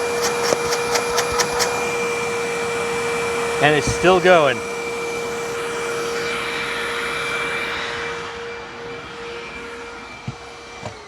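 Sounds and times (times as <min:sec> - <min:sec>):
vacuum cleaner whine: 0:00.0 - 0:11.0.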